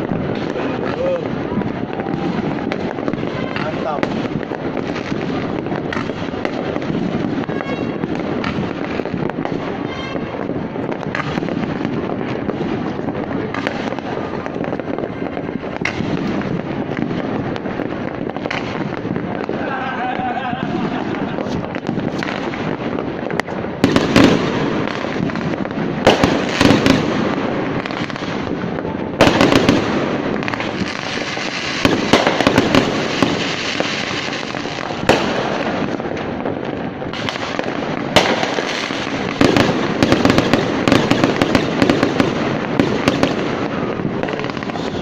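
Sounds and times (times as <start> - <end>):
fireworks bangs: 0.0 - 45.0
fireworks crackle: 0.0 - 45.0.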